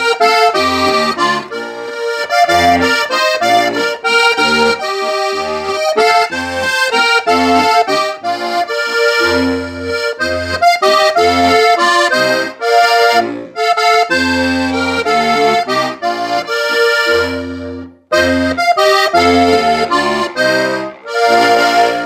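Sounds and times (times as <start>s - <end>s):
button accordion folk tune: 0.0s - 22.0s.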